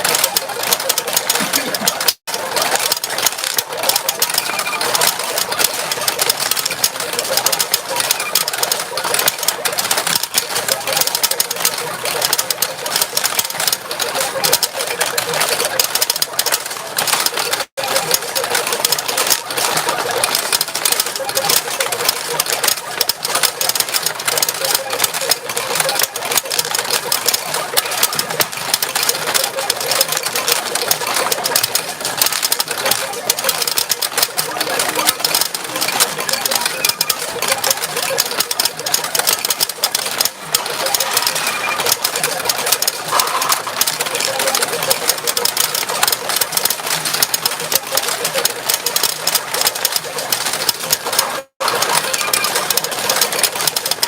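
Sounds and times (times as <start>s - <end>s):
pachinko steel balls clattering: 0.0s - 54.0s.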